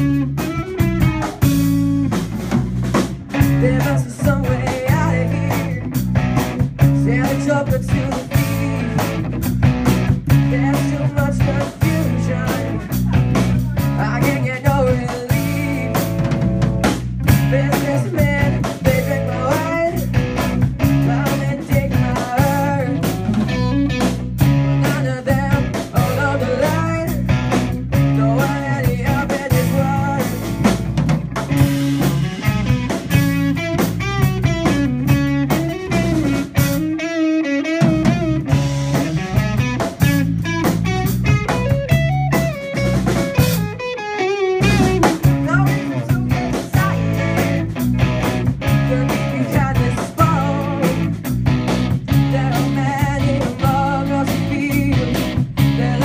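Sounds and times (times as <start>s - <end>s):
bass and drum groove: 0.0s - 43.9s, 44.6s - 56.0s
electric guitar lead line: 0.0s - 56.0s.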